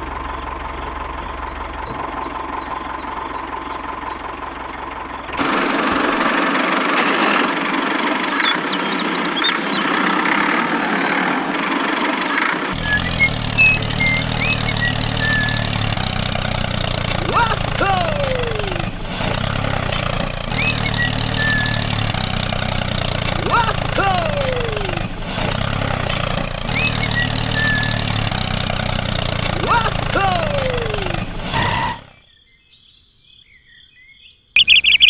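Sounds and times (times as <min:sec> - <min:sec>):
tractor diesel engine running: 0:00.0 - 0:32.2, 0:34.6 - 0:35.0
birds chirping: 0:00.8 - 0:35.0.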